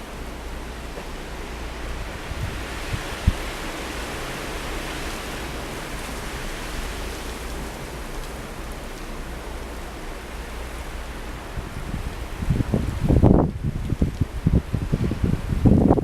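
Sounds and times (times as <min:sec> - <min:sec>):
blizzard wind rushing: 0:00.0 - 0:16.0
wind rumble on microphone: 0:00.0 - 0:16.0.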